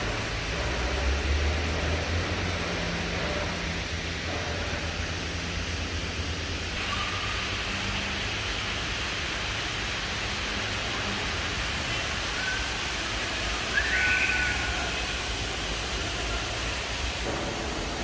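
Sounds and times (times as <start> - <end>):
even hiss: 0.0 - 18.0.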